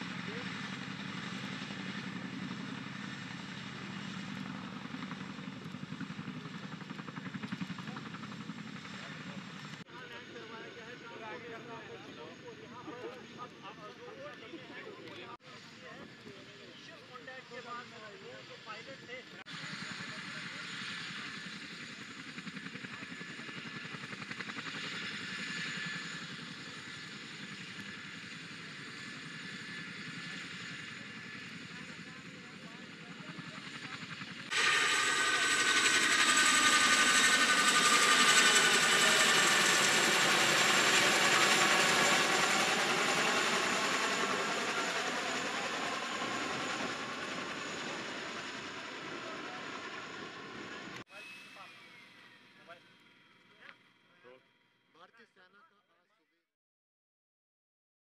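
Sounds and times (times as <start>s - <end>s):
helicopter rotors roaring: 0.0s - 51.0s.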